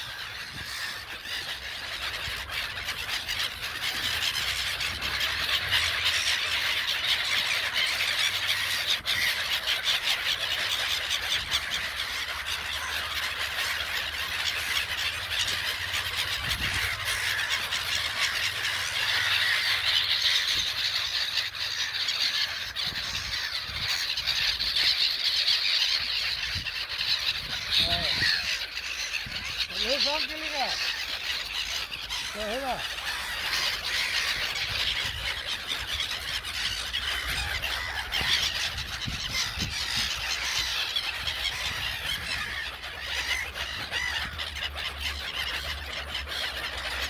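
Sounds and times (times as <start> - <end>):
seagulls crying: 0.0 - 47.0.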